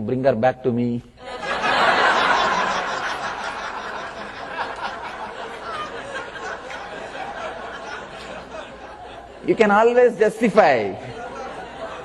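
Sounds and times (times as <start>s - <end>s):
audience laughing: 1.2s - 12.0s.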